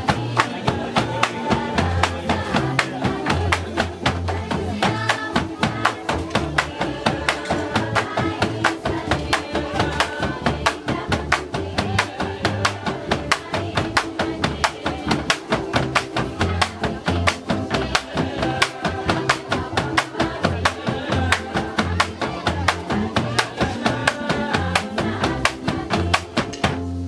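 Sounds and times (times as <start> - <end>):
bass line: 0.0 - 27.0
percussive strikes: 0.0 - 27.0
plucked string chords: 0.0 - 27.0.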